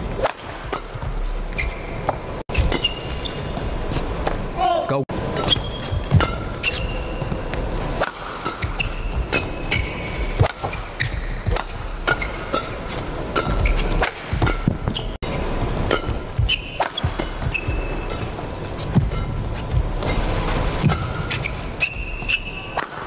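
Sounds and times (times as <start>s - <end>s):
rackets striking shuttlecock: 0.1s - 3.2s, 5.3s - 7.4s, 8.0s - 15.0s, 15.7s - 23.0s
shoes squeaking on court: 0.2s - 4.5s, 5.2s - 23.0s.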